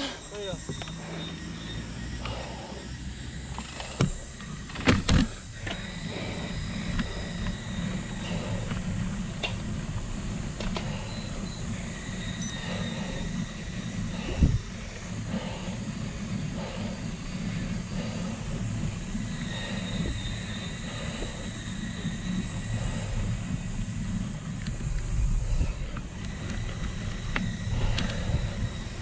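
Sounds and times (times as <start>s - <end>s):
low rumble and rushing noise: 0.0s - 29.0s.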